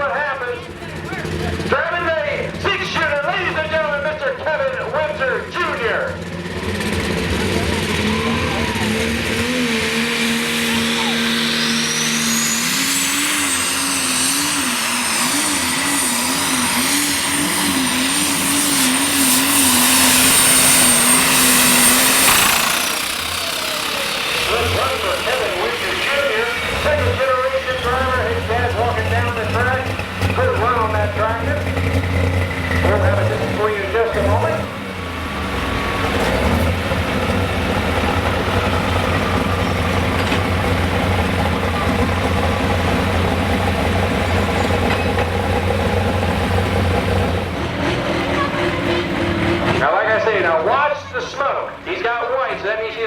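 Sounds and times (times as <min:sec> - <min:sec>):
high turbocharger whine: 0:00.0 - 0:53.0
tractor engine at full throttle: 0:00.0 - 0:53.0.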